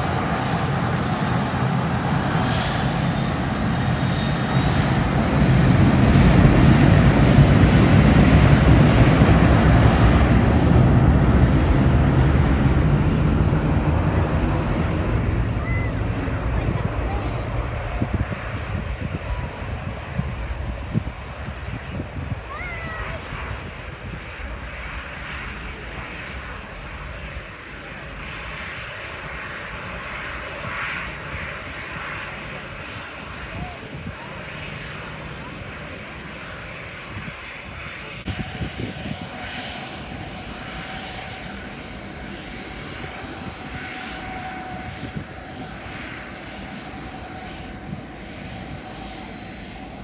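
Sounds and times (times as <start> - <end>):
aircraft engines rumbling: 0.0 - 50.0.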